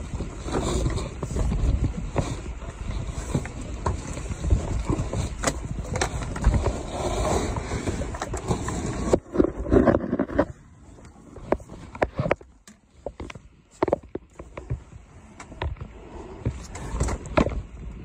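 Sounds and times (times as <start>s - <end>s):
handling and wind noise on microphone: 0.0s - 18.0s.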